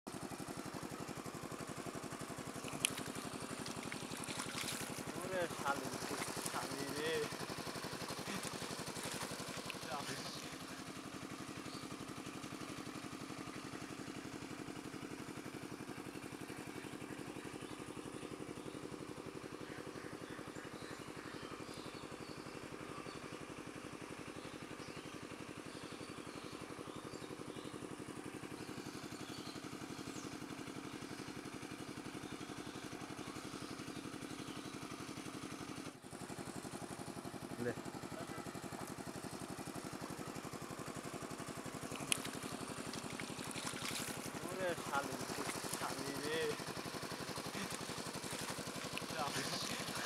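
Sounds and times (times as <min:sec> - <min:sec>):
engine humming steadily: 0:00.1 - 0:50.0.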